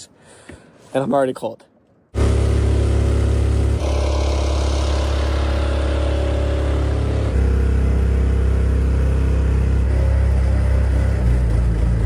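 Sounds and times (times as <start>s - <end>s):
small engine droning: 2.2s - 12.0s.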